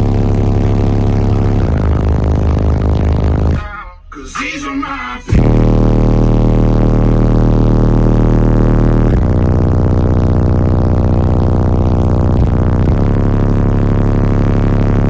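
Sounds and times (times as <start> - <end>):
subwoofers playing deep bass notes: 0.0 - 15.0.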